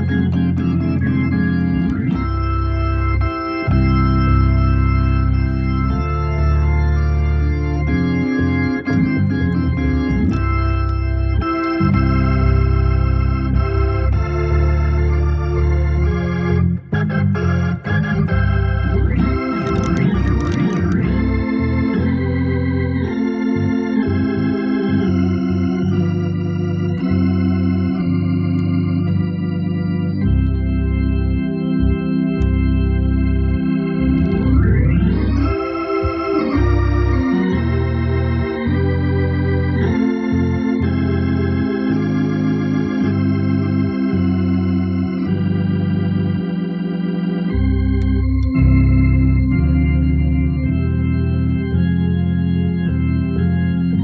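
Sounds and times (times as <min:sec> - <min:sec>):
organ playing gospel chords: 0:00.0 - 0:54.0
strong bass line: 0:00.0 - 0:54.0.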